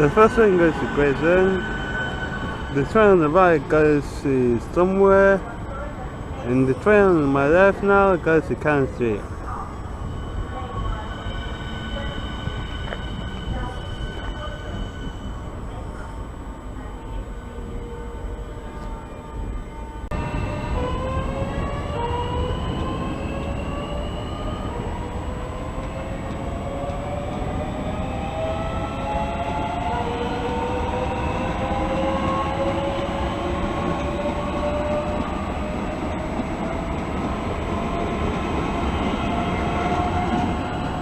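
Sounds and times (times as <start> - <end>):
wheels rumbling on rails: 0.0 - 41.0.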